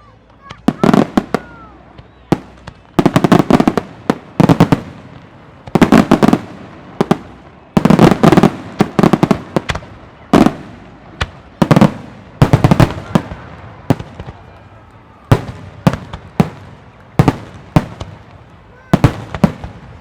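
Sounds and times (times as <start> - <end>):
fireworks bursting with crackles: 0.0 - 20.0.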